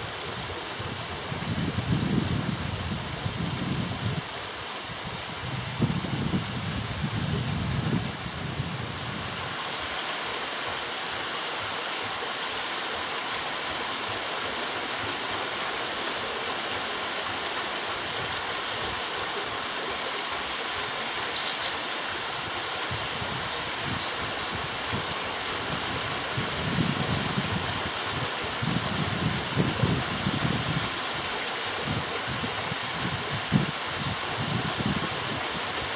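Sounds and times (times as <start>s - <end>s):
water splashing onto waterwheel: 0.0s - 8.3s, 9.3s - 35.9s.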